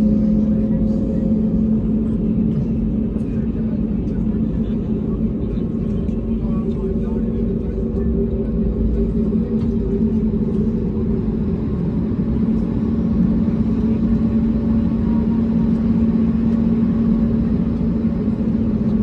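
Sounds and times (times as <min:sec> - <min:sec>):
jet engines rumbling in cabin: 0:00.0 - 0:19.0.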